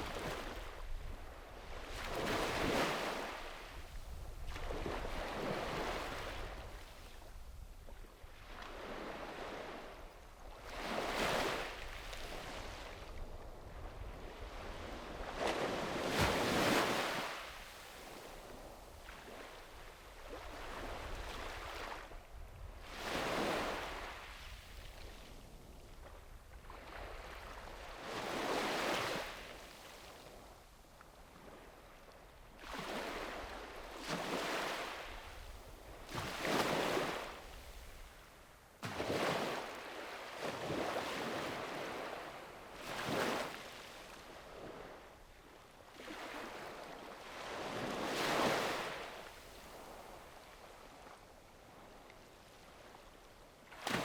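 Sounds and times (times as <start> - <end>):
sea waves breaking on shore: 0.0 - 7.0, 10.6 - 22.1, 22.8 - 24.8, 26.6 - 30.3, 32.6 - 38.1, 38.8 - 54.0.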